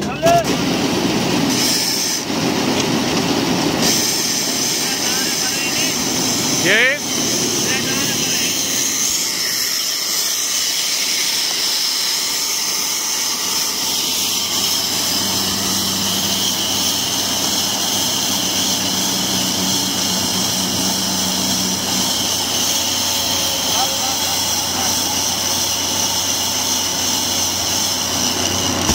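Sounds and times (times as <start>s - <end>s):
steady hum: 0.5s - 28.9s.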